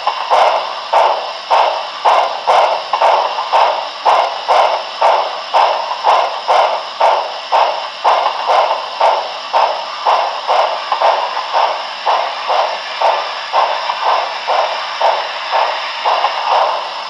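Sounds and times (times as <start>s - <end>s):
model steam locomotive puffs: 0.0s - 17.0s
steady hiss: 0.0s - 17.0s.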